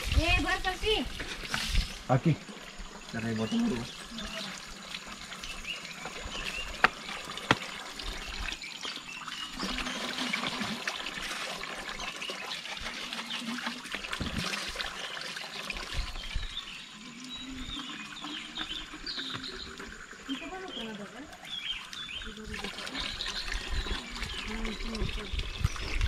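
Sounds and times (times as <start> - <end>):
water pouring into plastic tub: 0.0 - 26.0.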